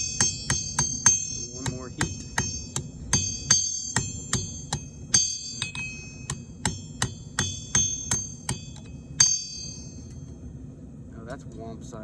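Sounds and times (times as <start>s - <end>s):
hammer blows on an anvil: 0.0s - 10.4s
low steady rumble: 0.0s - 12.0s.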